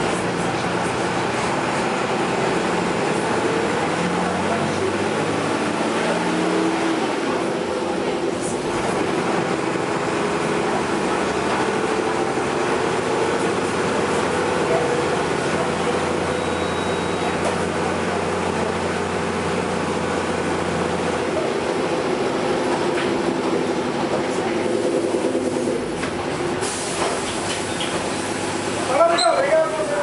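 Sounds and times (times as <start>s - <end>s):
moving vehicle rumble: 0.0s - 30.0s.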